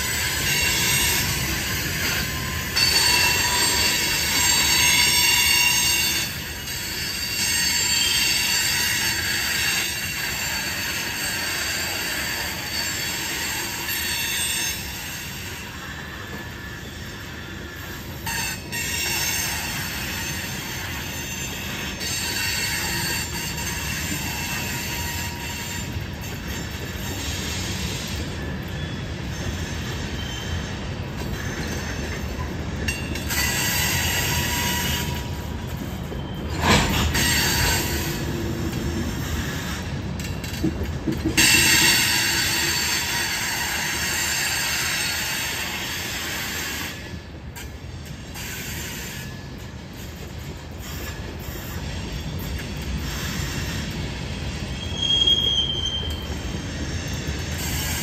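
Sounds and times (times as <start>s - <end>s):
freight train rumble: 0.0s - 58.0s
train wheels squealing: 0.0s - 58.0s.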